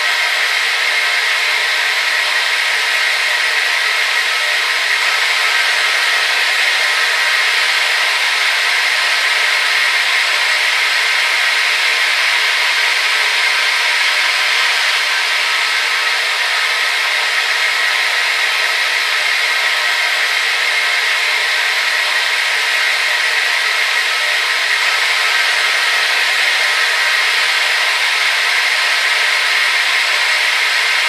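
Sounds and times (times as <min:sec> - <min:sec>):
hair dryer running: 0:00.0 - 0:31.0.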